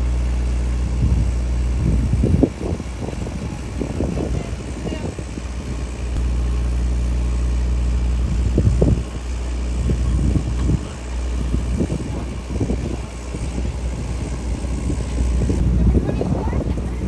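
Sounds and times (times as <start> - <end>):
engine humming: 0.0 - 17.0
uneven low rumbling: 0.0 - 17.0.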